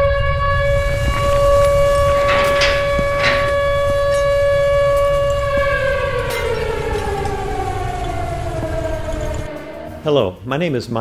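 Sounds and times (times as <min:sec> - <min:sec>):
warning siren winding down: 0:00.0 - 0:10.4
low rumble: 0:00.0 - 0:10.5.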